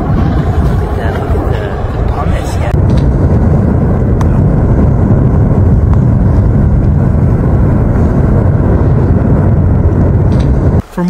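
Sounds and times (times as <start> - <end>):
low rumble of lava fountain: 0.0 - 10.8.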